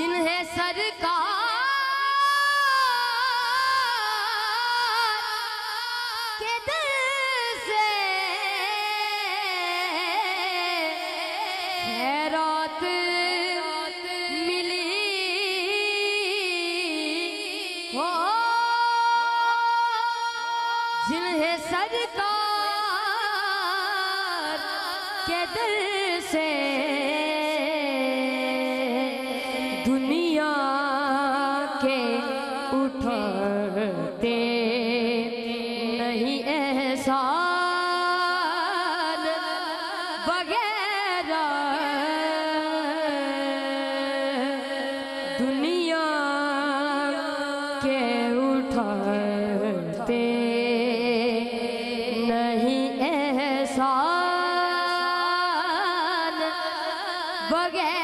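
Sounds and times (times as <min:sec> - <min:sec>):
boy singing: 0:00.0 - 0:58.0.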